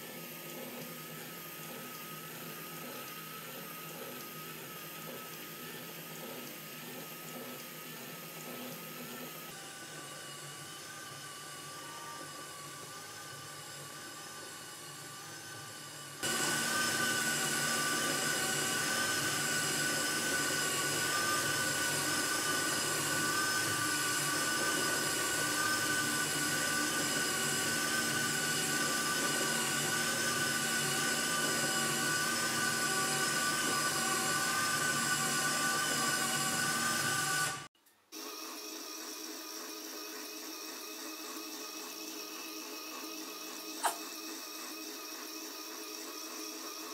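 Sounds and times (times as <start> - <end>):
motor whine with high tones: 0.0 - 46.9.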